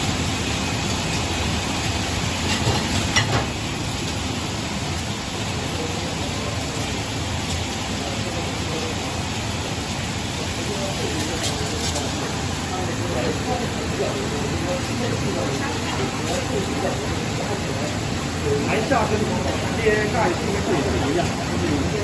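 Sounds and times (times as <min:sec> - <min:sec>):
dishwasher machine and water spray: 0:00.0 - 0:22.0.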